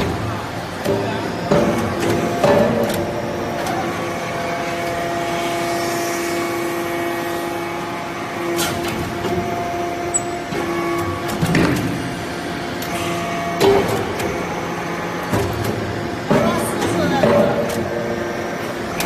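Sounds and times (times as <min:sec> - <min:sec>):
hydraulic press humming: 0:00.0 - 0:19.0.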